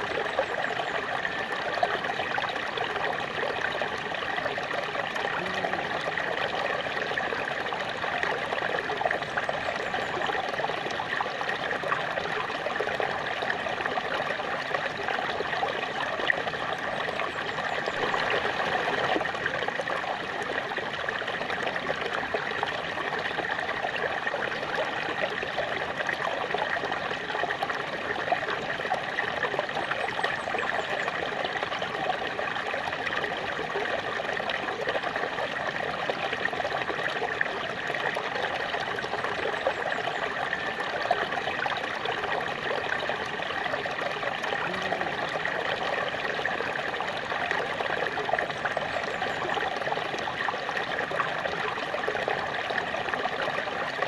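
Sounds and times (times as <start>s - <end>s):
water splashing over rocks: 0.0s - 54.0s.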